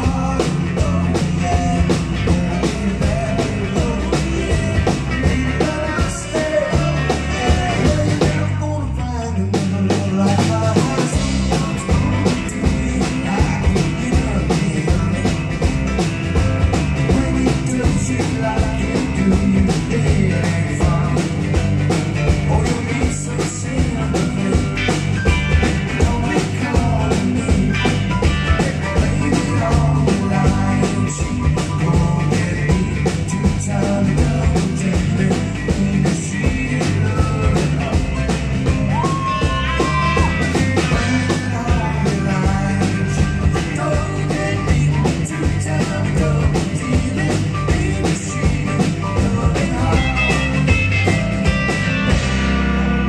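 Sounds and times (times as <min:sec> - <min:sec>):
drum kit beat: 0:00.0 - 0:08.6, 0:09.6 - 0:53.0
acoustic bass guitar: 0:00.0 - 0:53.0.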